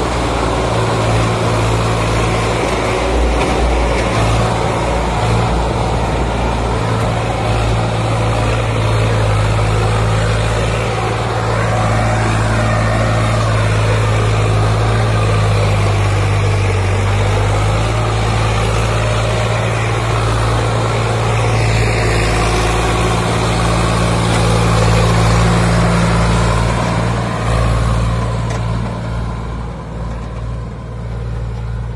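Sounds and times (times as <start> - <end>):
tractor diesel engine under load: 0.0 - 31.9.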